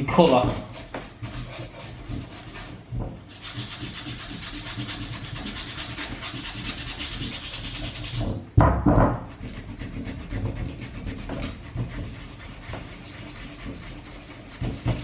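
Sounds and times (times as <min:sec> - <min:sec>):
brush scrubbing suede: 0:00.1 - 0:08.4, 0:09.3 - 0:15.0.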